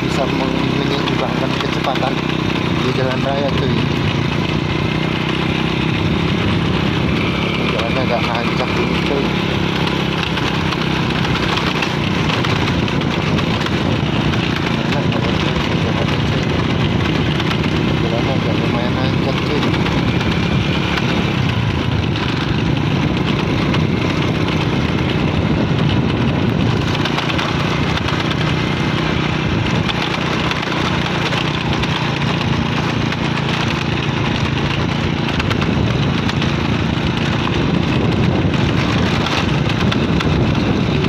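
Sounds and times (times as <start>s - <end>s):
motorcycle engine running: 0.0s - 41.0s
wind noise on microphone: 2.4s - 8.4s, 9.0s - 41.0s.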